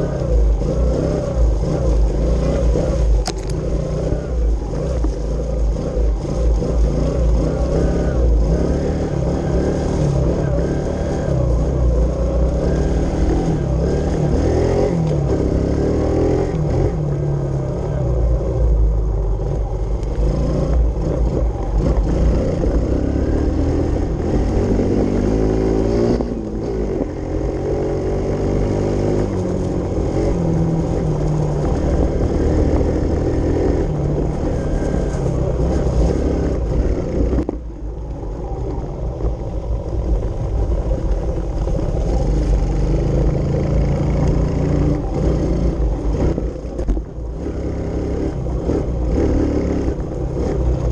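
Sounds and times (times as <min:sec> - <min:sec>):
motorbike engine revving: 0:00.0 - 0:18.5, 0:19.5 - 0:37.7, 0:40.7 - 0:50.9.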